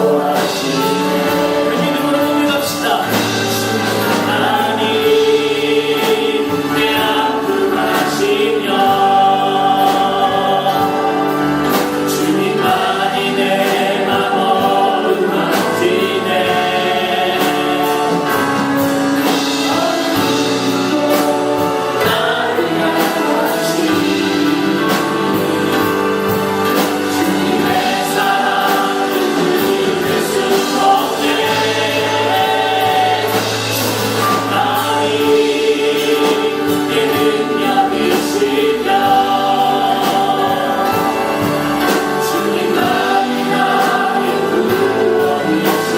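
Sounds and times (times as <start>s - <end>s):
choir singing gospel song: 0.0s - 45.9s
instrumental accompaniment: 0.0s - 45.9s.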